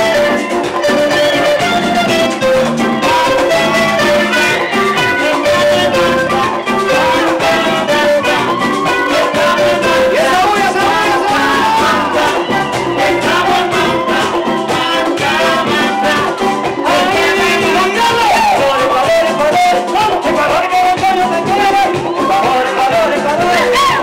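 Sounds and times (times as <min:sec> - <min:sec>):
congas: 0:00.0 - 0:24.0
live latin band: 0:00.0 - 0:24.0
man singing lead vocals: 0:02.3 - 0:24.0.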